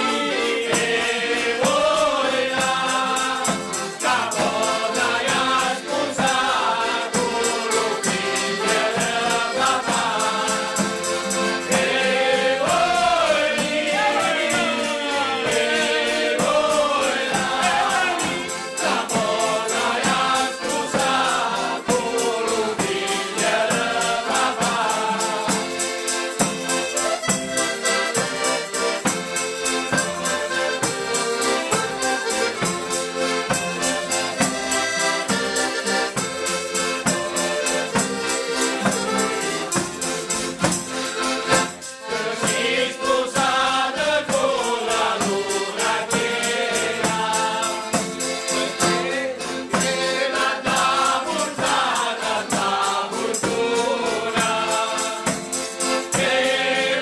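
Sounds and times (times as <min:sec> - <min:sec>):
frame drum beat: 0:00.0 - 0:57.0
group singing in chorus: 0:00.0 - 0:57.0
guitar: 0:00.0 - 0:57.0
piano accordion: 0:00.0 - 0:57.0.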